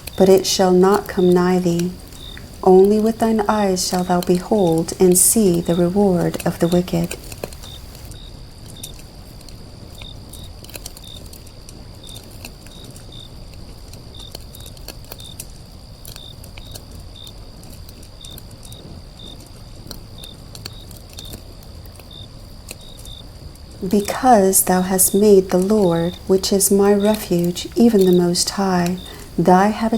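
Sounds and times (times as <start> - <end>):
steady high hum: 0.0 - 14.0, 18.8 - 29.9
insects chirping: 0.0 - 29.9
light crackles: 0.0 - 29.9.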